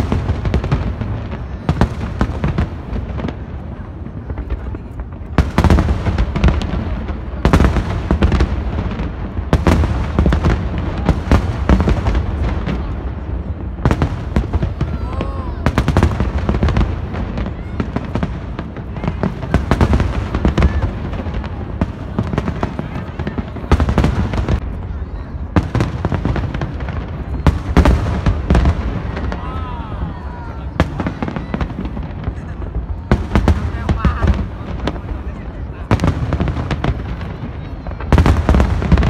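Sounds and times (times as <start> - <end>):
fireworks banging and crackling: 0.0 - 39.0.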